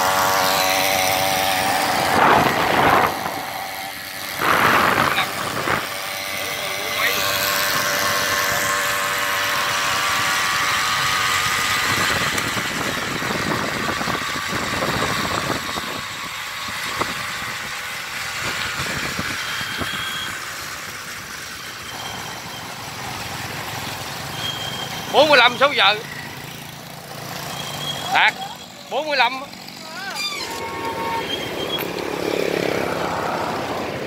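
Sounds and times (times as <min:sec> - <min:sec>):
small two-stroke engine running: 0:00.0 - 0:34.0.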